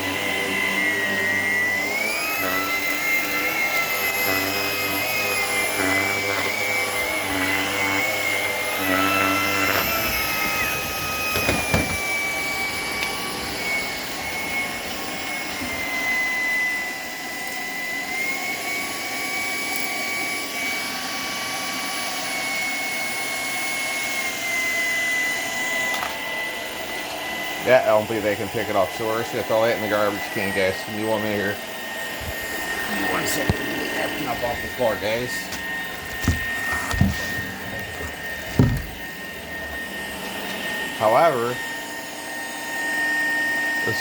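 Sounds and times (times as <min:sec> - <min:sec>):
vacuum cleaner motor whine: 0:00.0 - 0:44.0.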